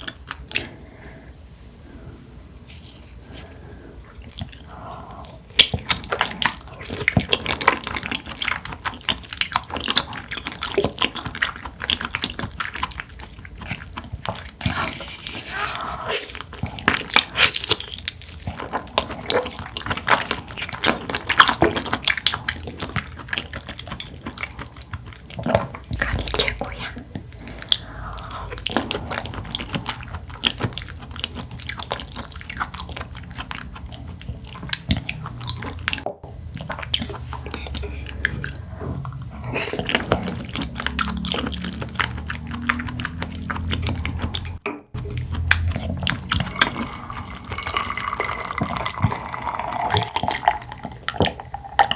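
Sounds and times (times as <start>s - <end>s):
chewing and wet mouth sounds: 0.0s - 1.0s, 2.7s - 51.9s.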